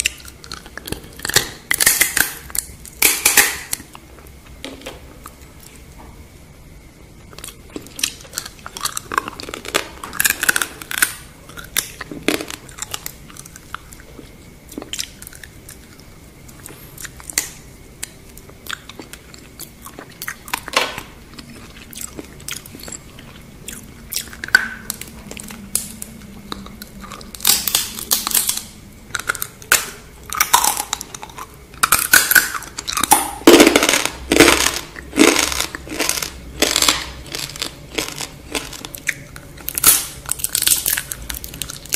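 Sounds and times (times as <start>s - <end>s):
crunching and chewing: 0.0s - 5.8s, 6.9s - 41.9s.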